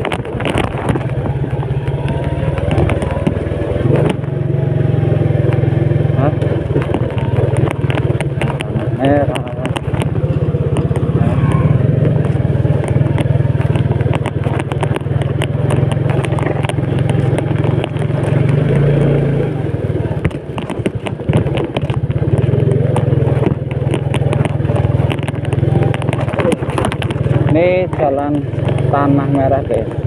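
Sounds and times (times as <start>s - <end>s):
bike clattering over stones: 0.0s - 4.5s, 5.5s - 18.9s, 19.7s - 30.0s
motorcycle engine running: 0.0s - 30.0s.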